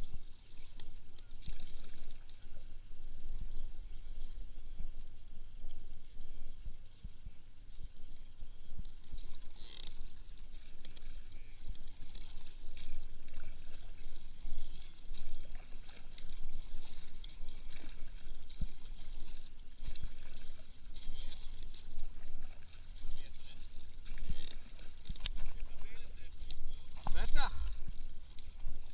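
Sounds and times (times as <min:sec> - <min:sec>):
paddle splashing water: 0:00.0 - 0:28.9.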